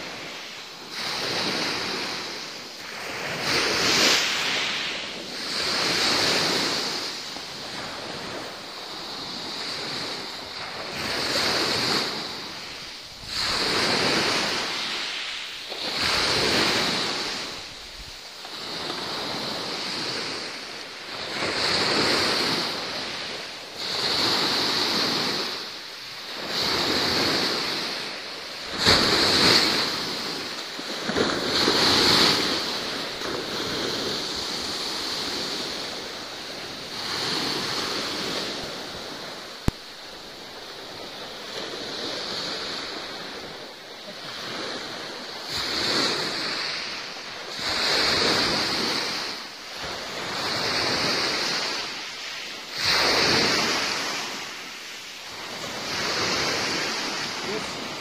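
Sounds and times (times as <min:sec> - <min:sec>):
sea waves washing: 0:00.0 - 0:58.0.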